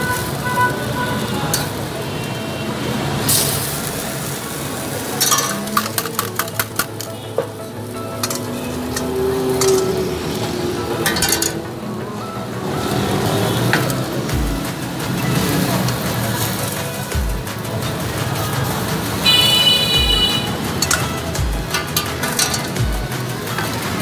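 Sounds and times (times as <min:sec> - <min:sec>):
food sizzling on griddle: 0:00.0 - 0:24.0.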